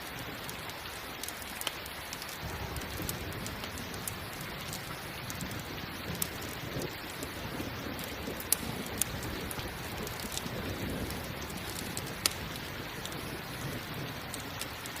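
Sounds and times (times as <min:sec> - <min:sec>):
campfire crackling and popping: 0:00.0 - 0:15.0
rain falling: 0:00.0 - 0:15.0.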